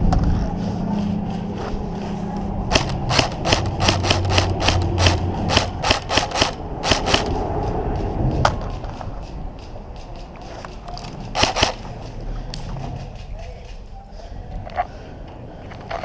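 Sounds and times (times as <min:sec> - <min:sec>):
running footsteps on a field: 0:00.0 - 0:14.0.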